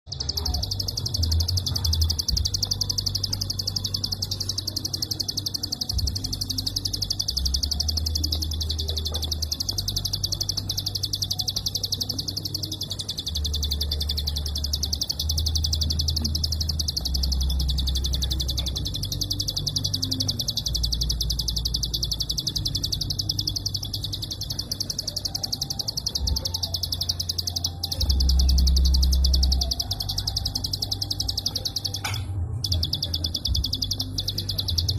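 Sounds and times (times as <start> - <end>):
bird singing rapid clicks: 0.1 - 34.9.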